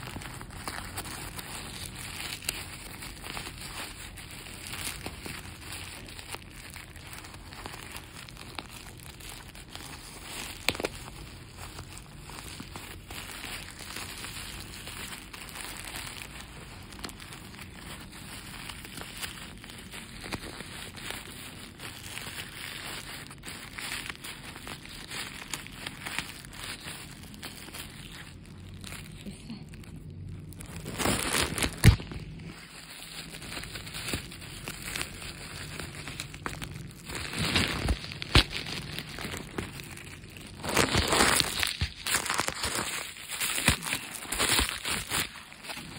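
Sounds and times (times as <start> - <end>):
sharp plastic crack: 0.0 - 27.4, 30.5 - 45.9
plastic bag crinkling and rustling: 0.0 - 45.9.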